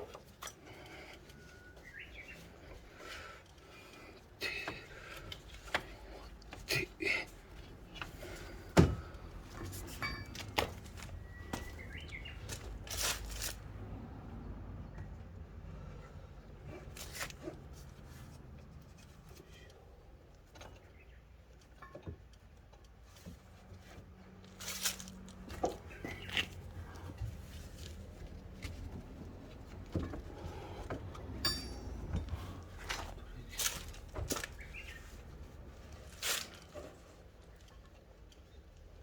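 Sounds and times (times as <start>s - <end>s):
clicks and knocks of hand work: 3.0s - 13.6s, 16.8s - 39.0s.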